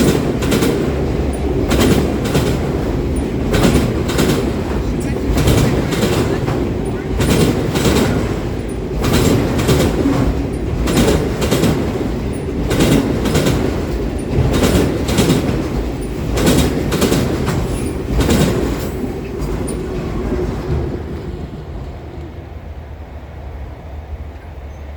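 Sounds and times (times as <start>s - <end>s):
train wheels clacking: 0.0s - 22.4s
train rumble: 0.0s - 24.9s.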